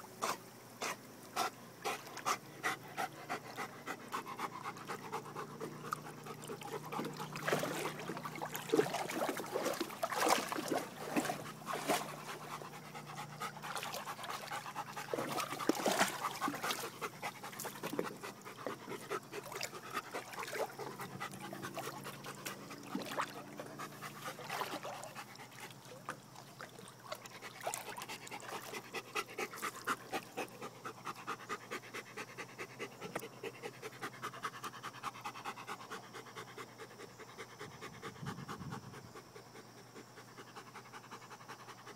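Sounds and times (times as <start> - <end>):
dog panting: 0.2 - 8.4, 11.0 - 25.7, 27.5 - 41.9.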